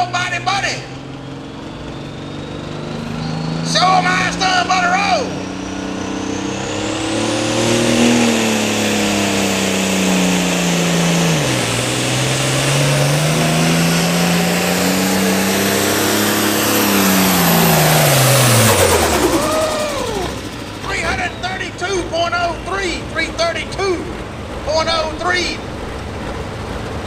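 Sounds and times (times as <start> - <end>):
diesel engine running hard: 0.0 - 27.0
turbo whine: 0.0 - 27.0.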